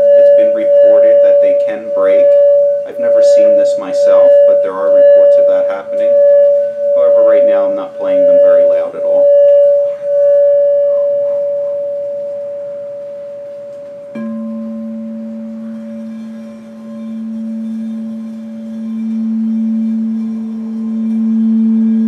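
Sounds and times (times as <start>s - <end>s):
deep singing bowl tone: 0.0s - 22.0s
high singing bowl tone: 0.0s - 22.0s
striker wand tapping bowl: 0.0s - 22.0s.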